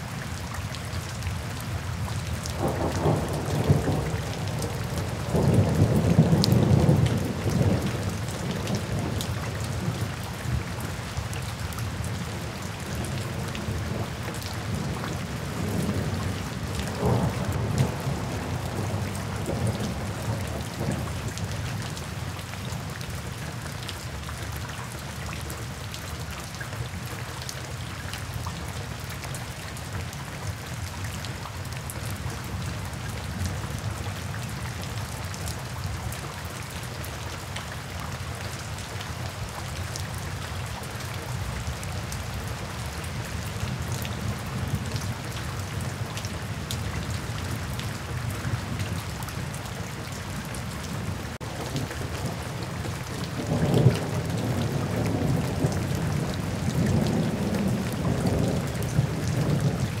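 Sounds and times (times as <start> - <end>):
rain splashing on pavement: 0.0 - 60.0.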